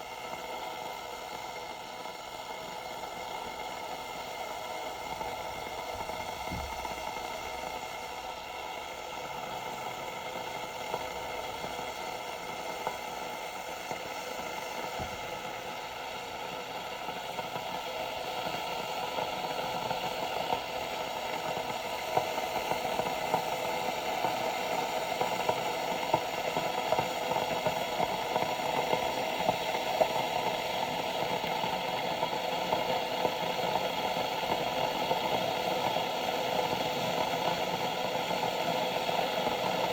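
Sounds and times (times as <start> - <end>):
kettle hiss: 0.0 - 39.9.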